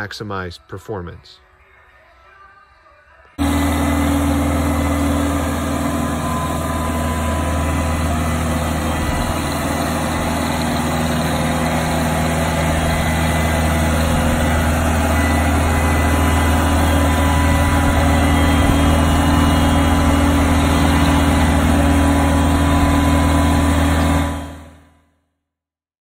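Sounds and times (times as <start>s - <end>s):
brooms and vacuum fan hissing: 3.4s - 24.7s
sweeper engine running: 3.4s - 24.9s.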